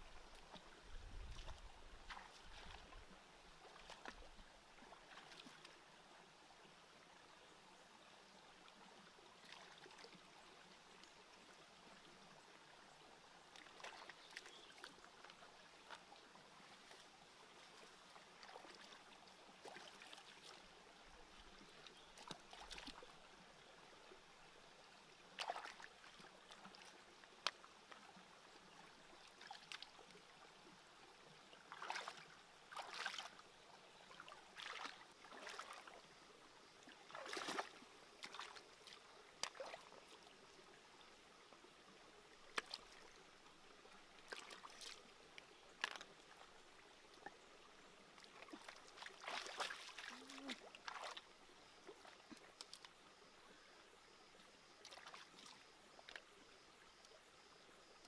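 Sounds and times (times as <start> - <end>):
faint trickling water: 0.0 - 58.0.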